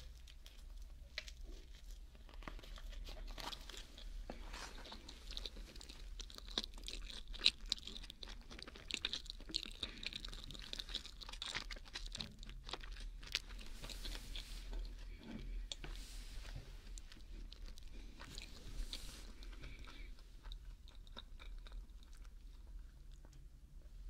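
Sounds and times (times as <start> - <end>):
chewing sandwich: 0.0 - 24.0.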